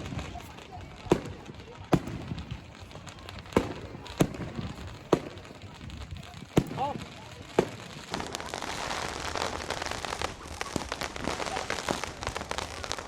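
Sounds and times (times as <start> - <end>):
firework bang: 0.0 - 13.0
firework crackle: 0.0 - 13.0.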